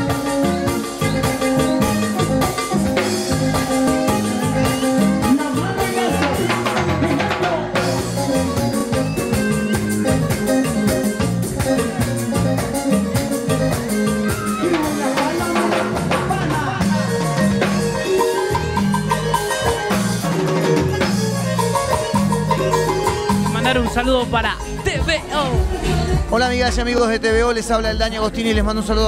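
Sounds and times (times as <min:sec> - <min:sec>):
drum kit and percussion beat: 0:00.0 - 0:29.0
live band playing: 0:00.0 - 0:29.0.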